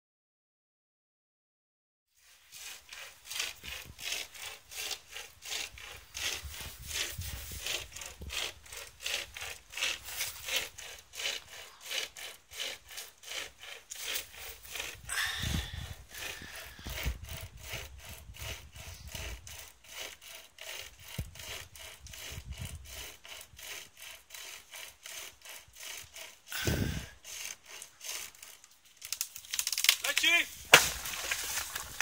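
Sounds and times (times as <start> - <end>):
saw rasping through wood: 2.2 - 32.0
wood cracking and creaking: 2.6 - 32.0.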